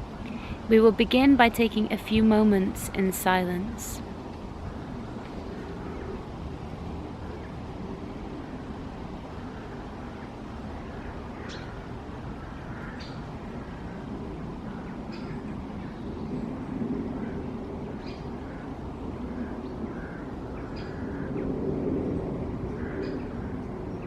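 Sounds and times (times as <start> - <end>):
low background rumble: 0.0 - 20.2.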